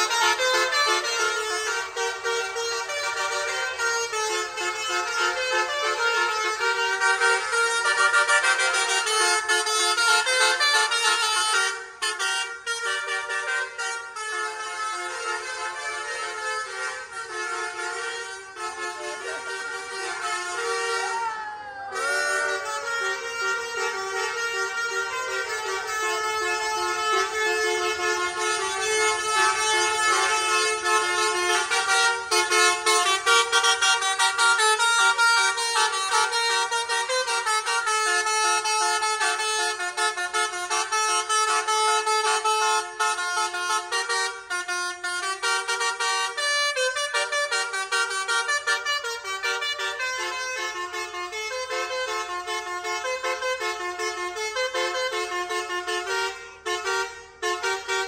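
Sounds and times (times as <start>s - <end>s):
bus air horn playing a tune: 0.0s - 58.0s.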